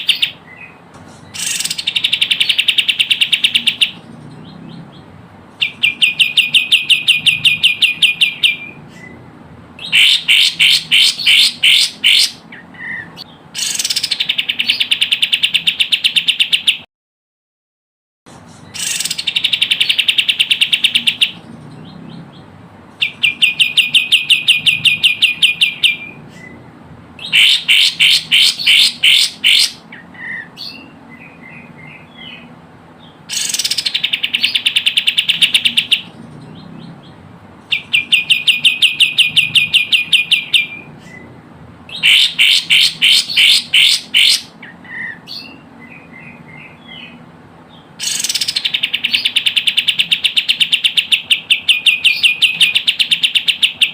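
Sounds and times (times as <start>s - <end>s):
recorded bird chirps: 0.0s - 16.9s, 18.3s - 53.9s.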